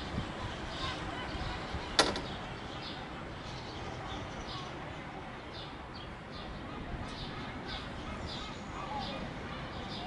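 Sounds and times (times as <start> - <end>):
birds calling: 0.0 - 10.0.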